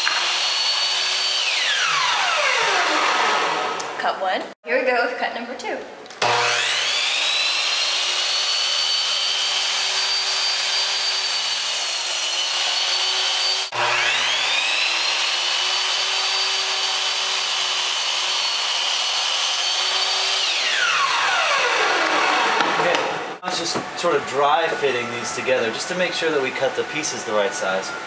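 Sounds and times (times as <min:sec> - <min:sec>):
power saw cutting wood: 0:00.0 - 0:04.0, 0:06.2 - 0:28.0.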